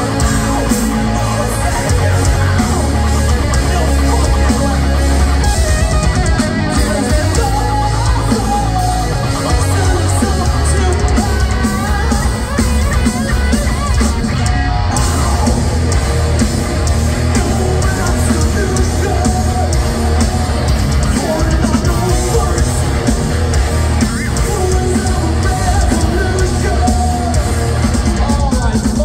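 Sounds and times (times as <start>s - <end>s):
thrash metal band playing live: 0.0s - 29.0s.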